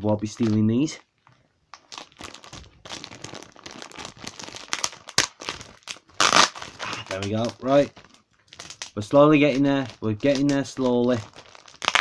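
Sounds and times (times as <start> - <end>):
plastic packaging crinkling: 0.2 - 12.0.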